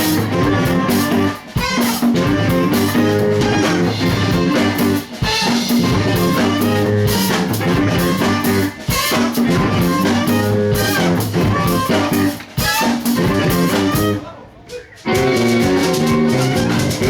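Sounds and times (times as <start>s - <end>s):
bass guitar: 0.0s - 14.3s, 15.0s - 17.0s
drum kit steady beat: 0.0s - 17.0s
guitar: 0.0s - 17.0s.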